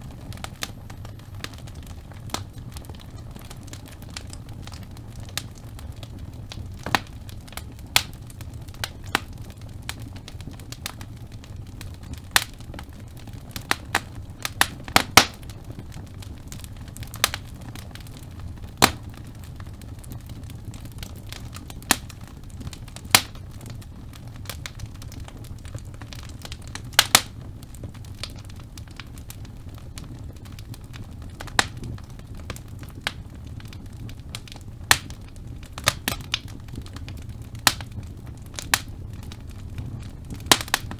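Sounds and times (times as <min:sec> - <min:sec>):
crackles and pops of burning logs: 0:00.0 - 0:40.9
rumble of flames: 0:00.0 - 0:40.9.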